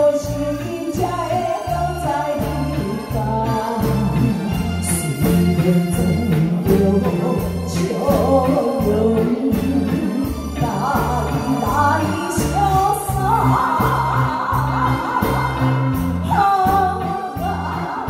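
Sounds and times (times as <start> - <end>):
live band playing: 0.0 - 18.0
pulsing bass line: 0.0 - 18.0
woman singing a ballad: 0.0 - 18.0.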